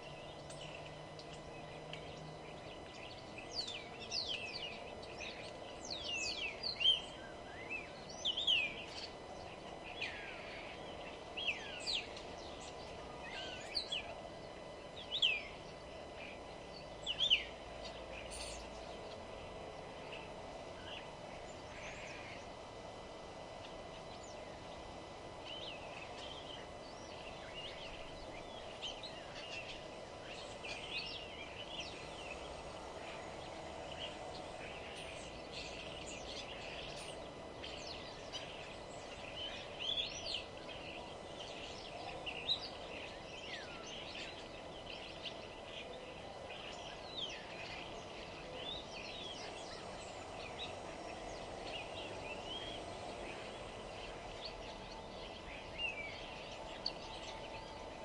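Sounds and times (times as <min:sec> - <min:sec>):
low background hum: 0:00.0 - 0:58.0
songbirds chirping and whistling: 0:00.0 - 0:58.0.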